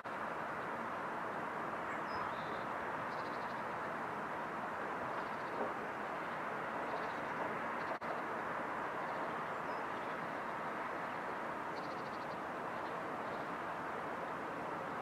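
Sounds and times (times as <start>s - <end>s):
distant traffic hiss: 0.0s - 15.0s.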